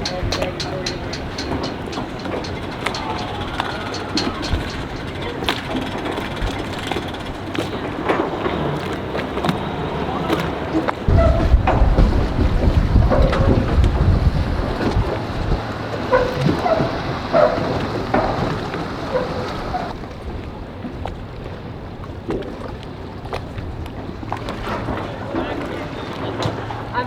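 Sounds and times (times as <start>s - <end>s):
boat: 0.0s - 27.0s
wind buffeting microphone: 0.0s - 27.0s.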